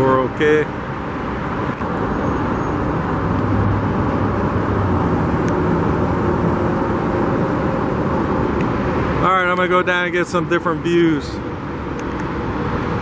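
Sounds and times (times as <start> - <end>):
freeway traffic noise: 0.0 - 13.0
vehicle engine low hum: 0.0 - 13.0.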